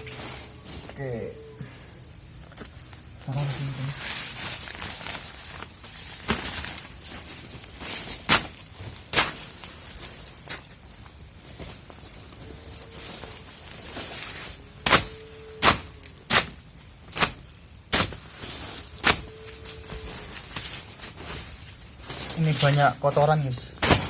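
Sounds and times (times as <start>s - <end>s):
insect chirping trill: 0.0s - 24.0s.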